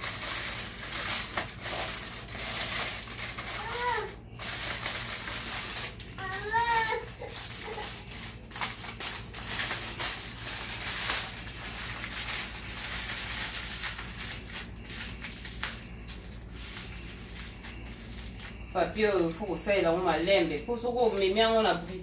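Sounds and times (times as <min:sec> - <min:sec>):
aluminium foil crinkling: 0:00.0 - 0:22.0.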